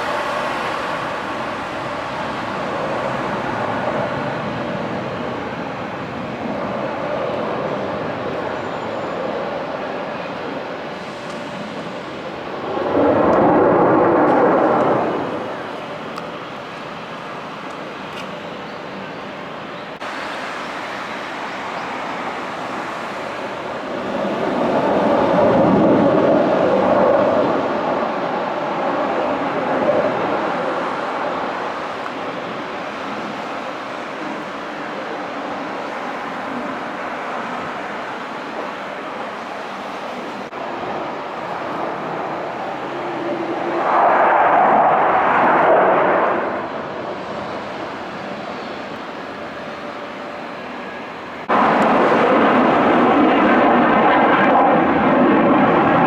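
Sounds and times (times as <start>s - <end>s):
fighter jet flying over: 0.0s - 56.0s.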